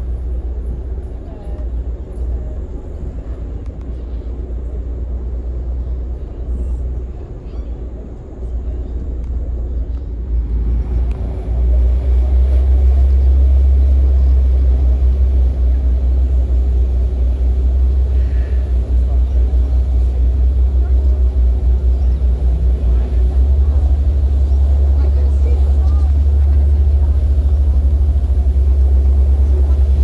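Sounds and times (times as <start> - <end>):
ferry engines rumbling: 0.0 - 30.0.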